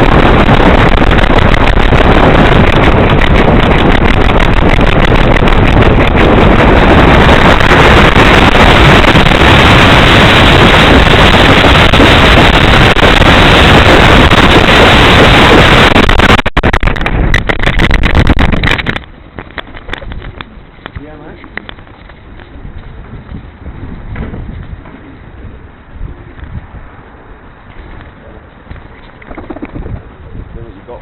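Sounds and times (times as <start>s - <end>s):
loud wind rush: 0.0s - 31.0s.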